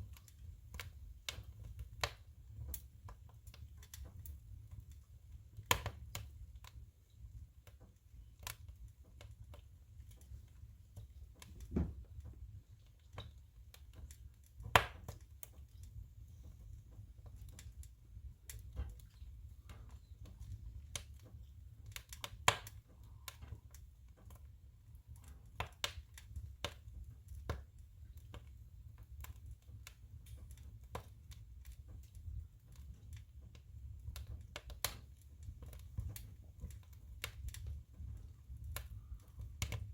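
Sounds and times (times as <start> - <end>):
firewood crackling and popping: 0.0 - 39.9
stove low rumble: 0.0 - 39.9.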